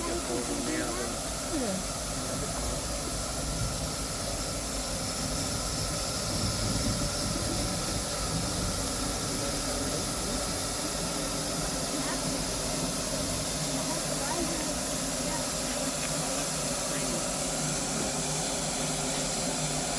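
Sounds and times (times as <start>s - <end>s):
steam hissing: 0.0s - 19.9s.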